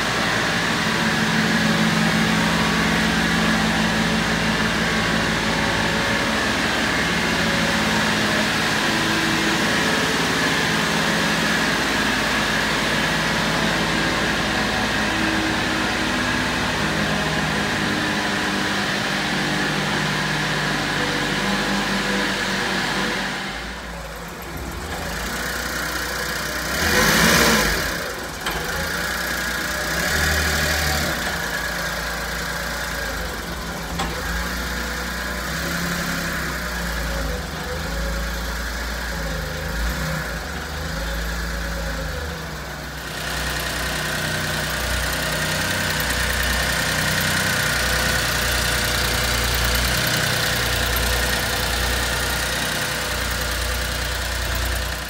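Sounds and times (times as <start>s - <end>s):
small truck engine idling: 0.0s - 55.0s.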